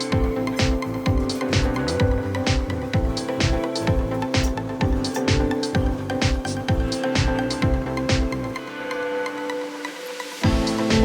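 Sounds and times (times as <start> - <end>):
snare and hi-hat hits: 0.0 - 8.4, 10.4 - 11.0
sustained synth notes: 0.0 - 9.8, 10.4 - 11.0
bass kicks: 0.1 - 8.5, 10.4 - 11.0.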